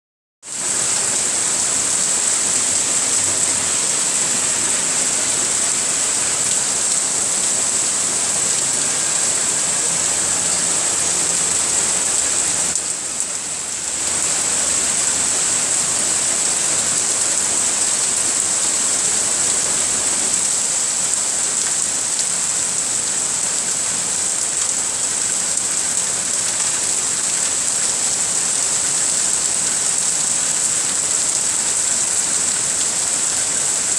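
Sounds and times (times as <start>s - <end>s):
heavy rain pouring: 0.5s - 33.9s.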